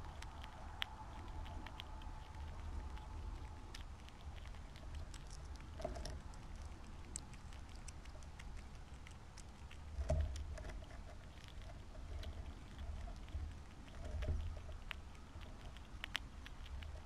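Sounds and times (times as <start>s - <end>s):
low steady rumble: 0.0s - 17.0s
squirrel rattling seed: 0.0s - 17.0s.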